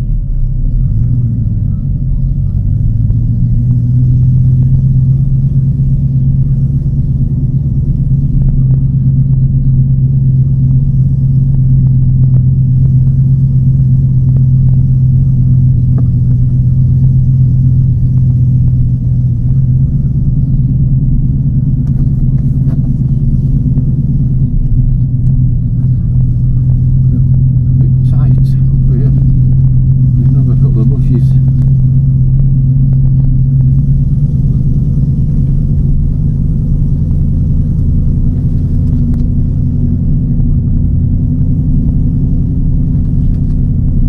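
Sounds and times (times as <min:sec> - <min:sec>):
car engine rumbling while driving: 0:00.0 - 0:44.0.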